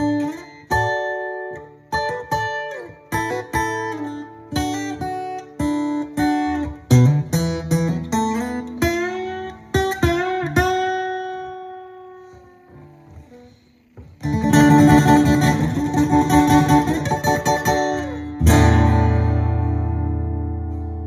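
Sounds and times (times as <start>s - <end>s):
acoustic guitar picked notes: 0.0s - 21.0s
acoustic guitar strumming: 0.0s - 21.0s.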